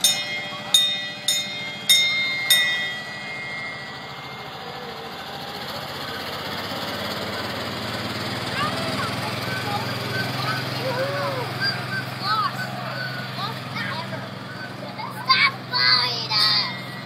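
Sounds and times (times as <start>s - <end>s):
small bell ringing: 0.0s - 6.9s, 8.6s - 17.0s
small train engine running: 0.0s - 17.0s.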